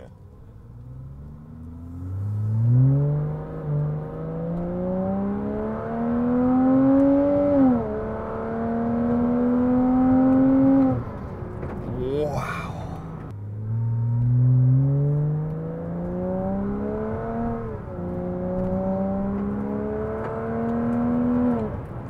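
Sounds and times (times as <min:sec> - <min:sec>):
sports car engine accelerating: 0:00.2 - 0:22.0.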